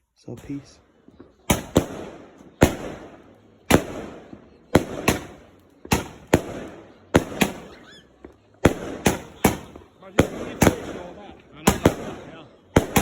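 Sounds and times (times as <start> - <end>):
fireworks bangs with echo: 0.4 - 13.0.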